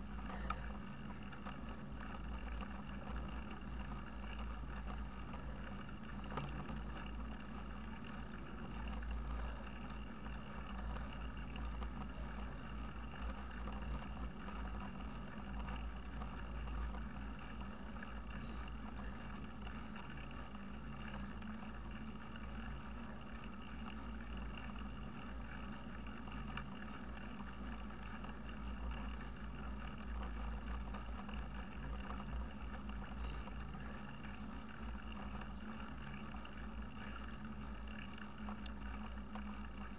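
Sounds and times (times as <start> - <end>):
bike tyres rolling on pavement: 0.0 - 39.9.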